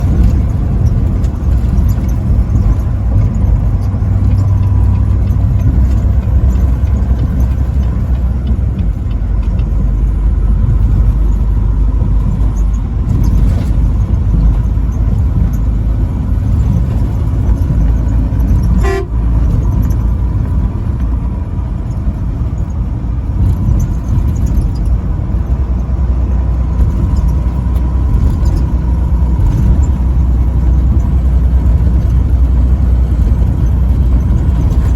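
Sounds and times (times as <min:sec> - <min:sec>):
truck engine and road rumble: 0:00.0 - 0:34.9.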